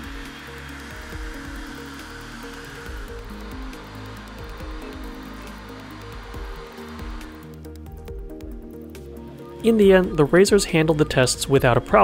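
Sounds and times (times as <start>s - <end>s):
background music with bass: 0.0s - 12.0s
machinery whirring hiss: 0.0s - 12.0s.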